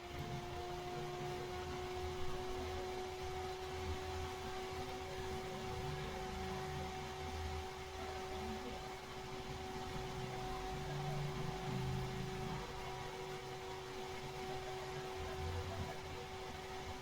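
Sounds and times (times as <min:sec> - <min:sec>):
cooling fan whirring: 0:00.0 - 0:17.0.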